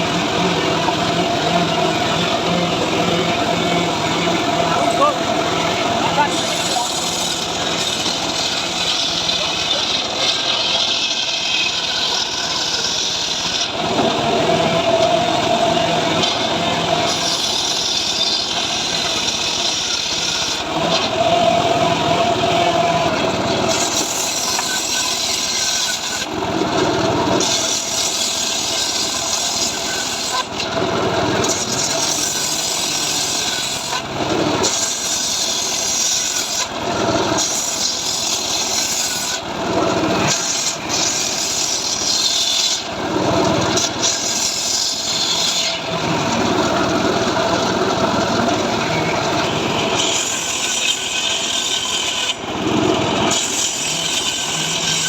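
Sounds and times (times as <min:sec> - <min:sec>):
power saw cutting wood: 0:00.0 - 0:55.0.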